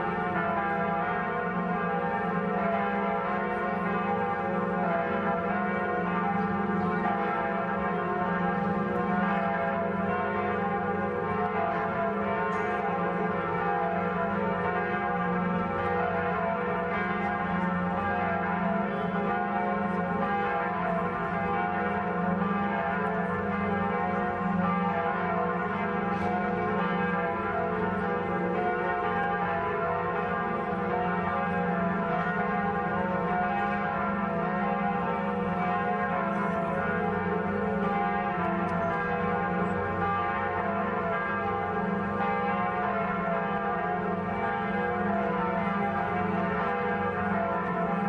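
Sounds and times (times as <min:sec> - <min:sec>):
church bells ringing: 0:00.0 - 0:48.0.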